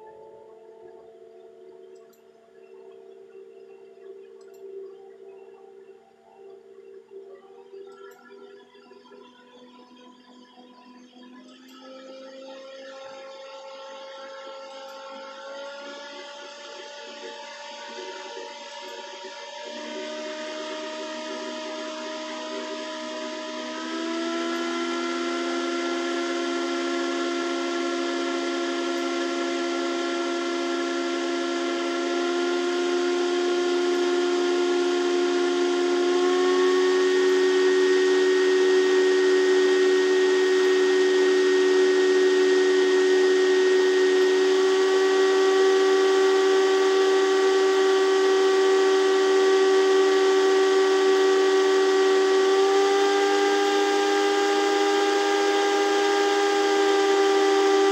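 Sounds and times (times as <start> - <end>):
cooling fans whining: 0.0 - 2.1, 13.3 - 57.9.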